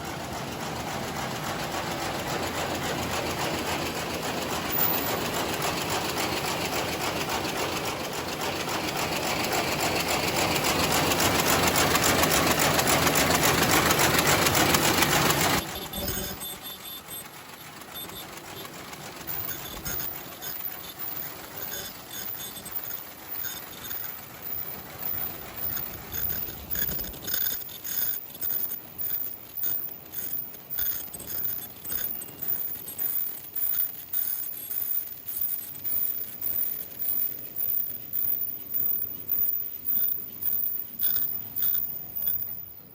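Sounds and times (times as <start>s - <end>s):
paper bag machine clattering: 0.3s - 38.3s.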